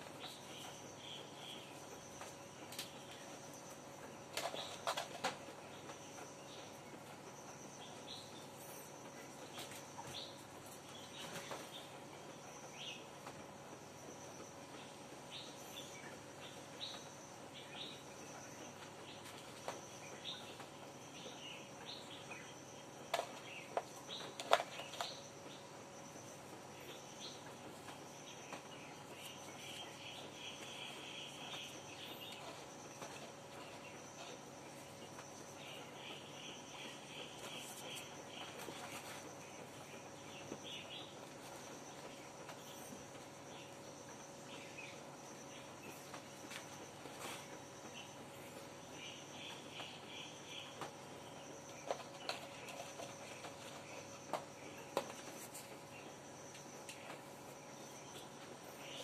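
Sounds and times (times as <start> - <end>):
insect chirping in pulsed trains: 0.0 - 59.0
low steady hum: 0.0 - 59.0.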